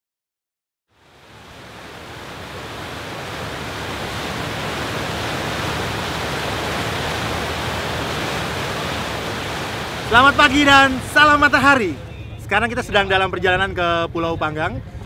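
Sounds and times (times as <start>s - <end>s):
water rushing from motorboat: 0.9s - 15.0s.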